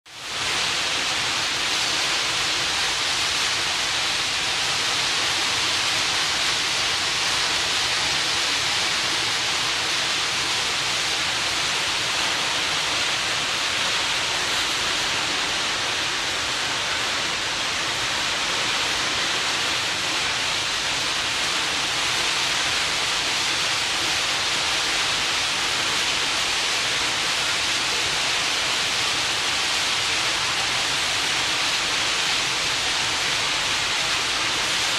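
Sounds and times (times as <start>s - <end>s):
rushing hiss of sea water: 0.1s - 34.9s.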